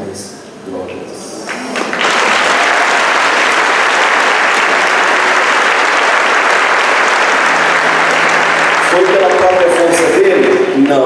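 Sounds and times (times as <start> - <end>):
large audience applauding: 1.5 - 11.0.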